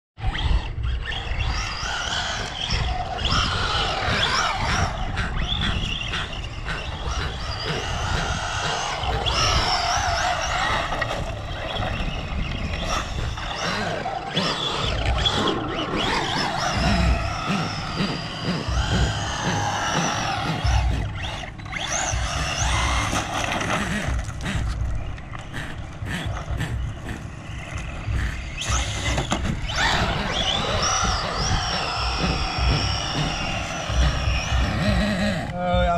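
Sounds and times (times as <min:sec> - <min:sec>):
electric motor whining: 0:00.2 - 0:35.9
low rumble: 0:00.2 - 0:35.9.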